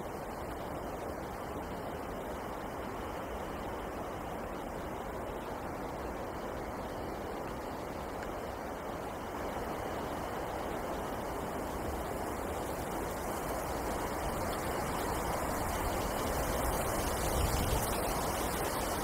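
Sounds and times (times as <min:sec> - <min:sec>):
wind blowing through forest: 0:00.0 - 0:19.0.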